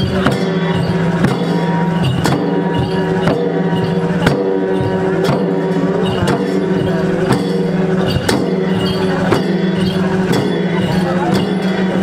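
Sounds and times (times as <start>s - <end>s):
barrel drums beaten in rhythm: 0.0s - 12.0s.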